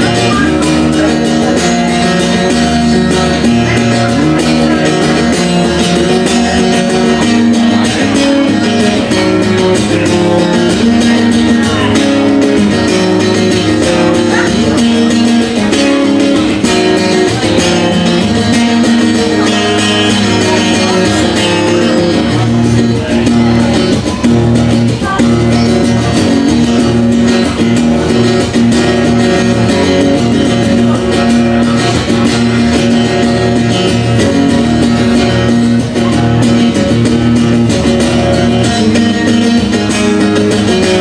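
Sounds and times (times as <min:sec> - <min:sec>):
guitar music: 0:00.0 - 0:41.0.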